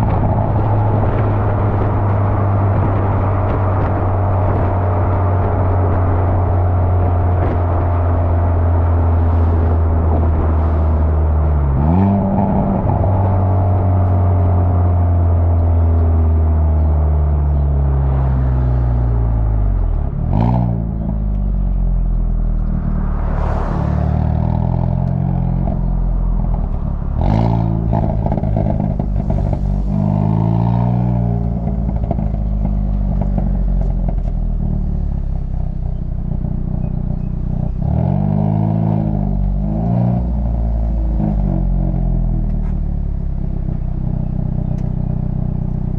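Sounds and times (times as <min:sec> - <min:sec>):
exhaust pops and crackles: 0:00.0 - 0:17.6, 0:24.4 - 0:45.9
car engine revving: 0:00.0 - 0:45.9.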